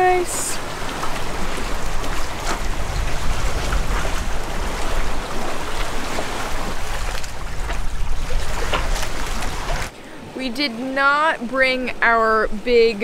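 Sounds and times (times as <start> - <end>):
wind rumbling on microphone: 0.0 - 10.6
water rushing along a hull: 0.0 - 13.0.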